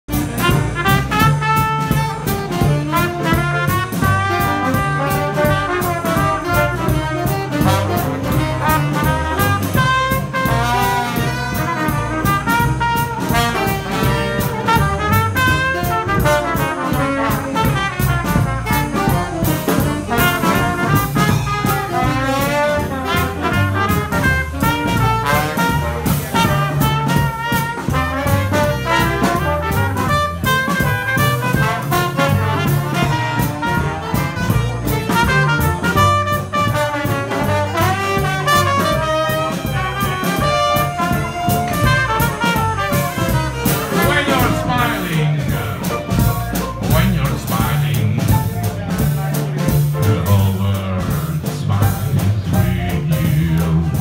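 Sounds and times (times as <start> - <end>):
jazz band playing: 0.0 - 54.0
trombone: 0.1 - 54.0.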